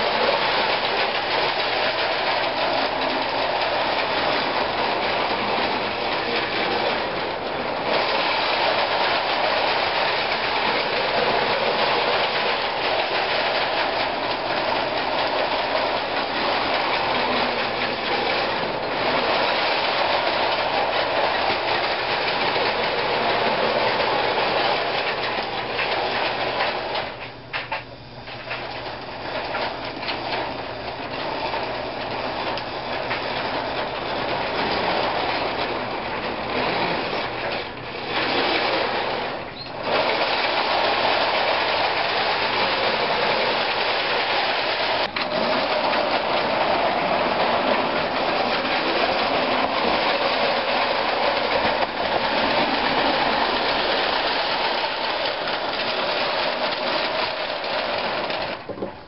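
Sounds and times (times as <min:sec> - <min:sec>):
toy train clattering on track: 0:00.0 - 0:59.0.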